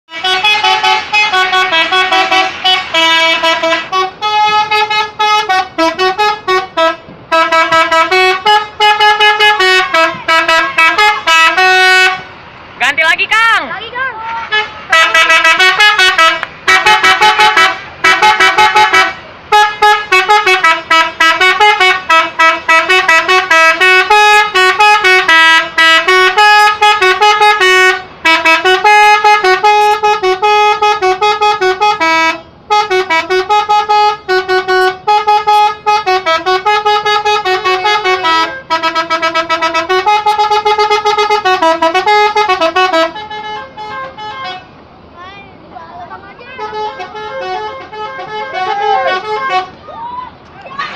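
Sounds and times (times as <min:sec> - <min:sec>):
multi-tone air horn melody: 0:00.1 - 0:12.4, 0:14.1 - 0:44.7, 0:46.4 - 0:49.8.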